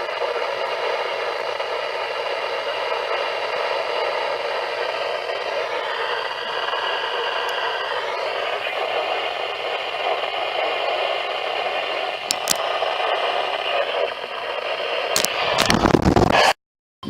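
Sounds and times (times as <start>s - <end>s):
radio static hiss: 0.0s - 16.6s.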